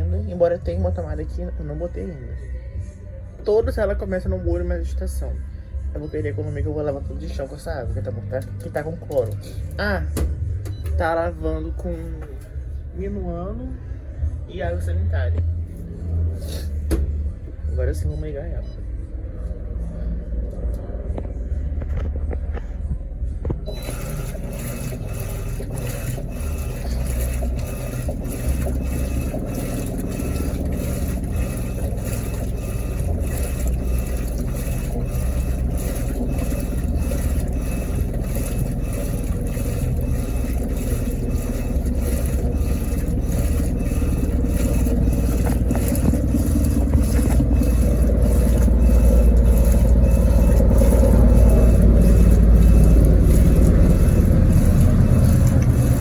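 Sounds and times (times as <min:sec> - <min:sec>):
washing machine low rumble: 0:00.0 - 0:56.0.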